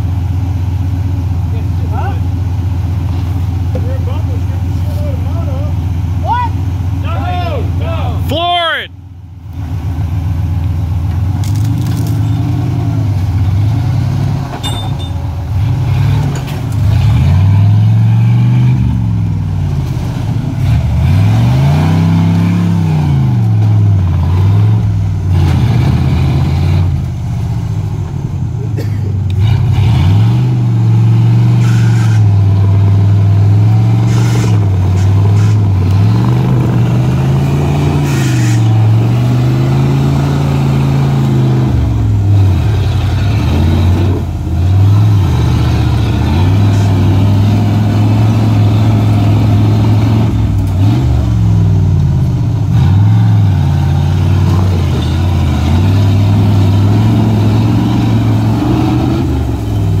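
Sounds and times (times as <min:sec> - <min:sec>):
off-road vehicle engine revving: 0:00.0 - 0:08.8, 0:09.4 - 1:00.0.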